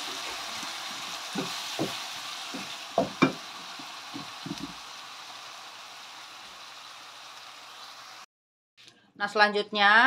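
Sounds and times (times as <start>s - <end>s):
spice paste sizzling in oil: 0.0s - 8.3s.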